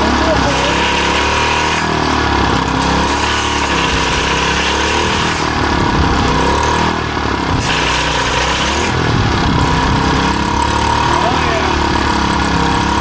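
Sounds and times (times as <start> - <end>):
small gas engine running: 0.0 - 13.0.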